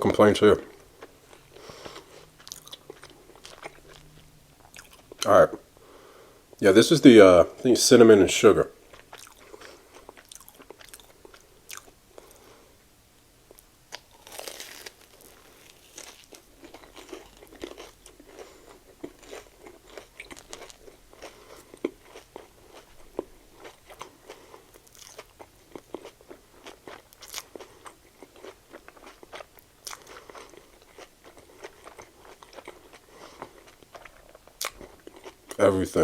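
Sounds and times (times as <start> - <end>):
chewing and crunching fried batter: 0.5 - 5.6, 8.7 - 12.7, 13.4 - 36.0.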